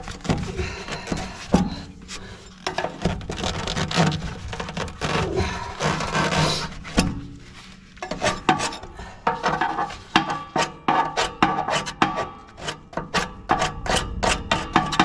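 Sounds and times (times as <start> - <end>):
hand scraping and rubbing: 0.0 - 14.8.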